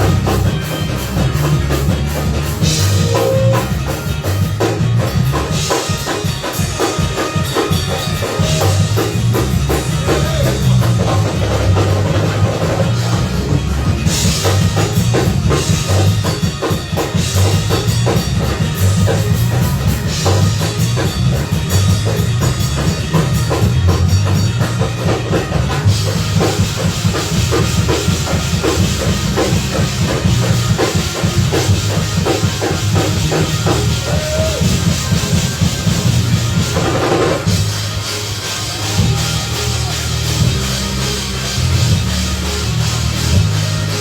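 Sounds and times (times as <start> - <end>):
drum kit kick and snare: 0.0 - 44.0
heavy bass line: 0.0 - 44.0
live band playing instrumental: 0.0 - 44.0.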